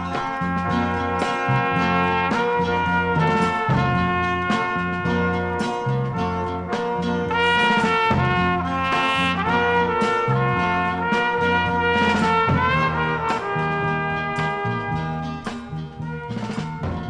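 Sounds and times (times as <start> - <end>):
big band brass and bass: 0.0 - 17.0.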